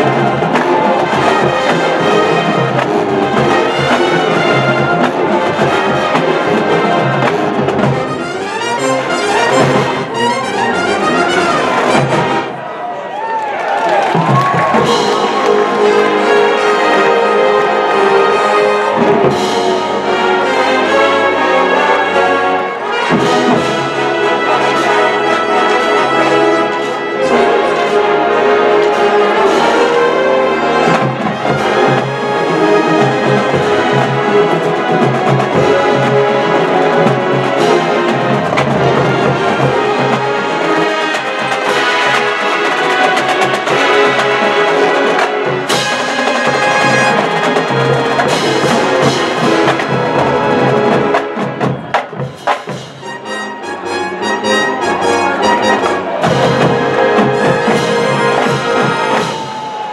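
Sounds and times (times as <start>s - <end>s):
trumpets and trombones: 0.0s - 12.9s, 13.6s - 59.9s
marching band playing: 0.0s - 59.9s.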